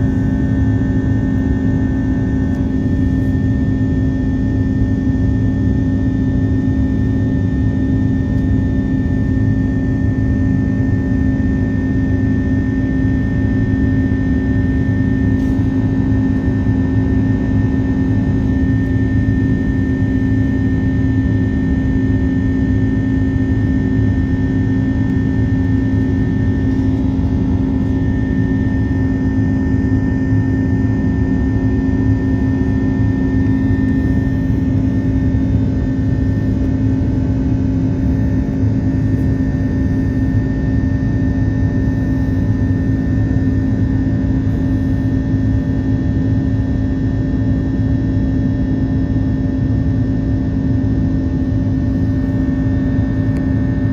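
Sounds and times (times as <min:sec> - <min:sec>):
jet engines and airflow in cabin: 0:00.0 - 0:53.9.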